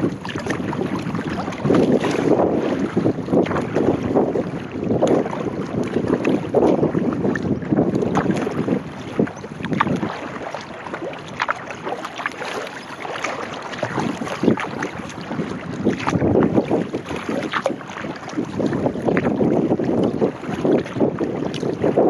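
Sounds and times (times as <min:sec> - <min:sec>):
paddle strokes splashing: 0:00.0 - 0:22.0
wind buffeting microphone: 0:00.0 - 0:22.0.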